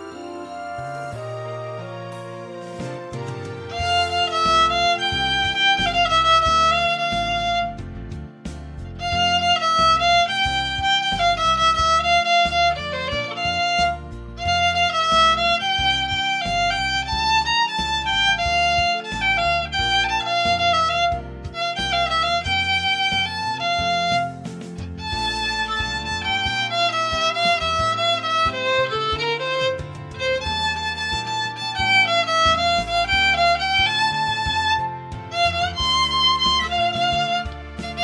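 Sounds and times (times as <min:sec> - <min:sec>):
solo violin melody: 0:00.0 - 0:38.0.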